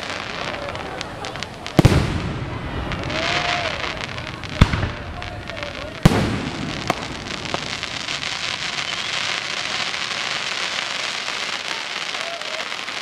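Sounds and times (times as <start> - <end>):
sharp firework pops: 0.0 - 11.4
fireworks crackling: 0.0 - 13.0.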